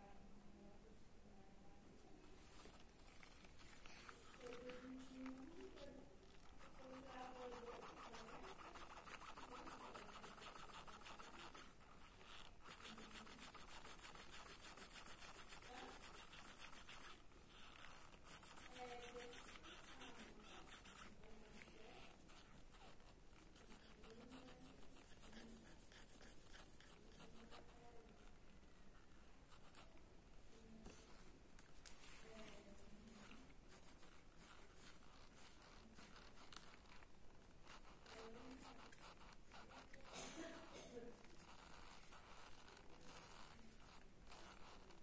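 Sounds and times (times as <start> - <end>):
pencil scratching on paper: 2.4 - 31.2, 31.8 - 45.0.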